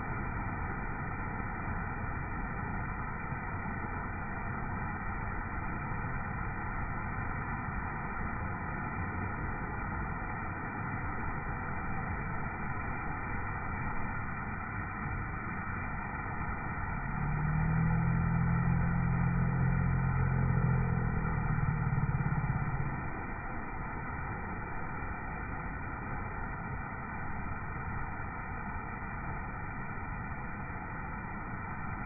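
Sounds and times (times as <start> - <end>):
low engine-like hum: 0.0 - 32.0
water fountain splashing: 0.0 - 32.0.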